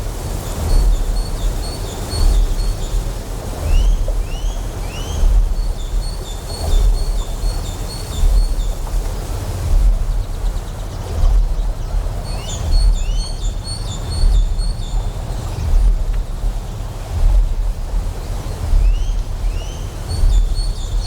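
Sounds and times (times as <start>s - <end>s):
deep generator hum: 0.0s - 21.0s
flowing water hiss: 0.0s - 21.0s.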